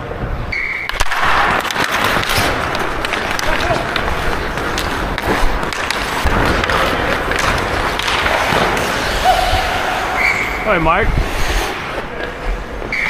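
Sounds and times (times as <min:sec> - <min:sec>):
hockey sticks clacking on puck: 0:00.8 - 0:13.0
skate blades scraping on ice: 0:00.9 - 0:13.0.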